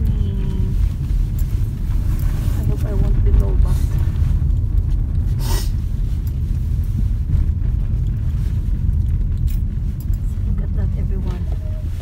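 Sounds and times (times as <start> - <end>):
car driving on snowy road: 0.0 - 12.0.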